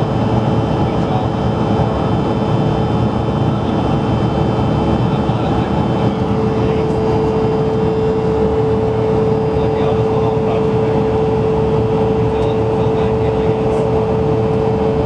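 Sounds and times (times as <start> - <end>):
engine whines: 0.0 - 15.0
jet cabin roar: 0.0 - 15.0.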